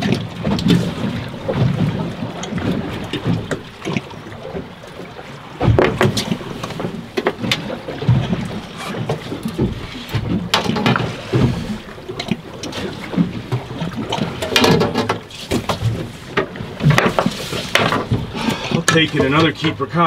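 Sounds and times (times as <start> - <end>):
wind rumble on microphone: 0.0 - 19.2
sharp knocks against boat: 0.0 - 19.6
water slapping boat hull: 0.0 - 20.0.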